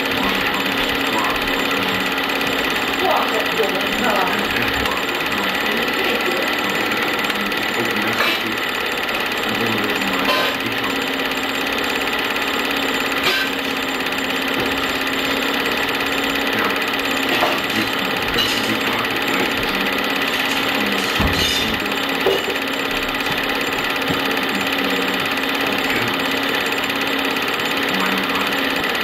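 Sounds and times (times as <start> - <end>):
film projector whirring: 0.0 - 29.0.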